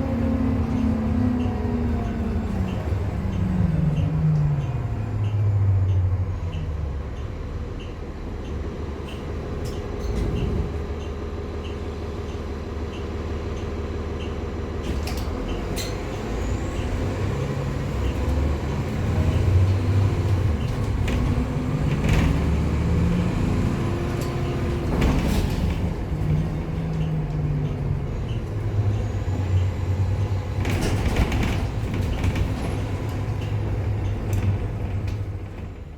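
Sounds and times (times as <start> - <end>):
bus engine drone: 0.0 - 35.9.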